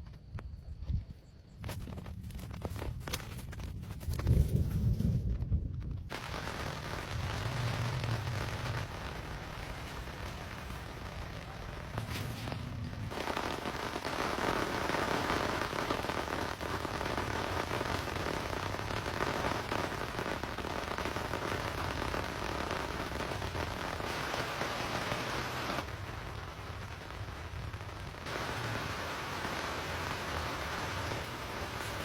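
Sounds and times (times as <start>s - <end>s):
heavy rain drumming: 6.1s - 32.0s.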